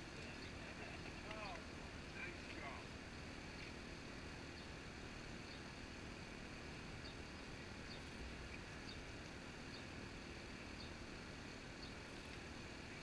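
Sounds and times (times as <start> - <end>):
low outdoor hiss and rumble: 0.0 - 13.0.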